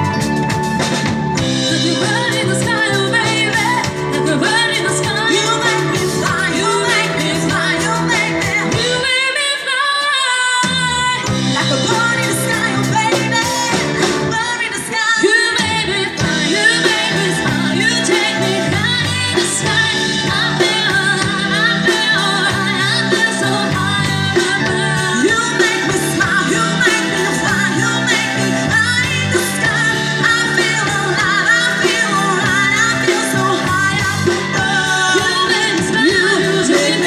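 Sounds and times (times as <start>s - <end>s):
pop-rock band playing: 0.0s - 37.0s
woman singing: 1.4s - 37.0s.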